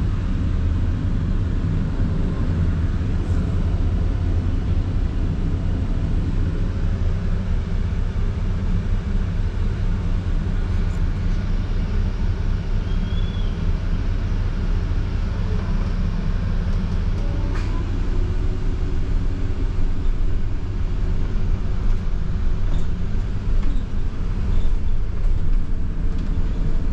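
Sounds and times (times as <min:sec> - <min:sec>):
bus engine rumble: 0:00.0 - 0:26.9
road noise: 0:00.0 - 0:26.9.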